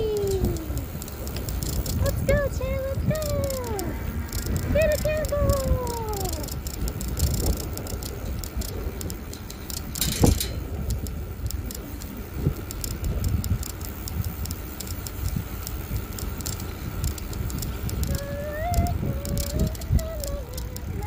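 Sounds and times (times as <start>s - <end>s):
bicycle clatter: 0.0s - 21.0s
bicycle rattling clicks: 0.0s - 21.0s
wind and road rumble: 0.0s - 21.0s.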